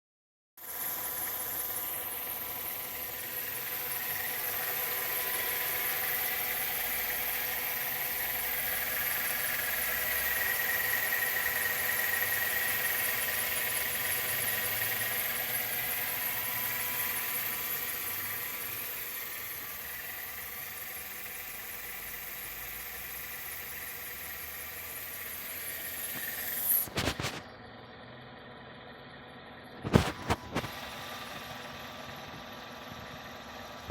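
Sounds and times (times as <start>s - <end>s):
car engine running: 0.6s - 33.9s.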